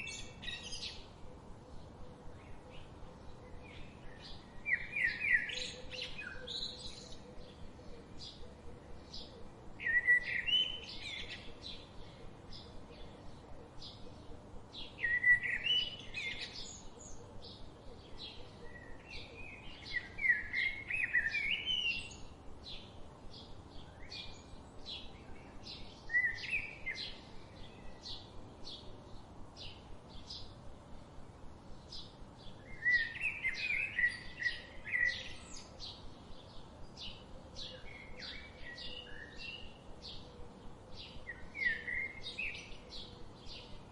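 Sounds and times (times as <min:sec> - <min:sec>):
bird warbling song: 0:00.0 - 0:30.7, 0:31.6 - 0:43.9
songbirds chirping: 0:00.0 - 0:43.9.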